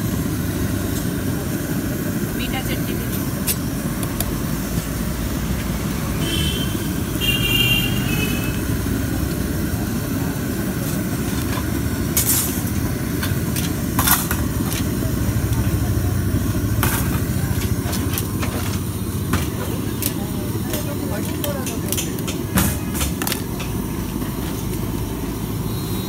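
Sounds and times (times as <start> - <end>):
street background rumble: 0.0 - 26.0.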